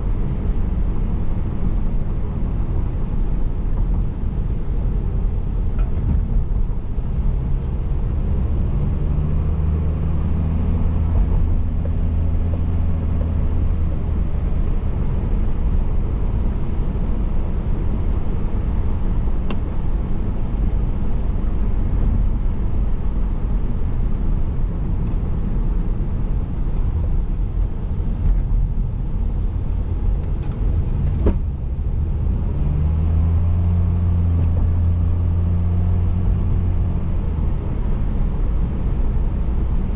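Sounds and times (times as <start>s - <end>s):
low engine hum: 0.0s - 39.9s
tyre and road noise: 0.0s - 39.9s.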